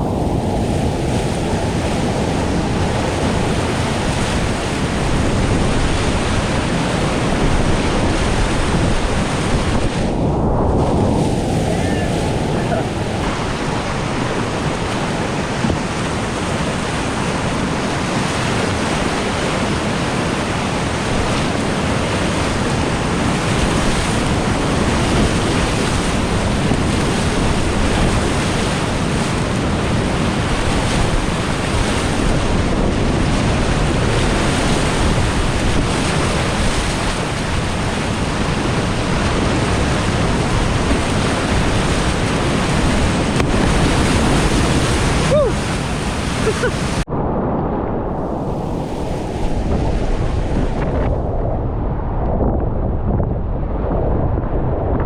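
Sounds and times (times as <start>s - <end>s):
whitewater rapids rushing: 0.0s - 10.2s, 10.8s - 47.1s.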